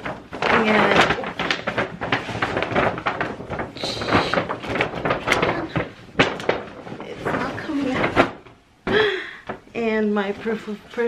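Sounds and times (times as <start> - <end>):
paper bag crackling and rustling: 0.0 - 11.0.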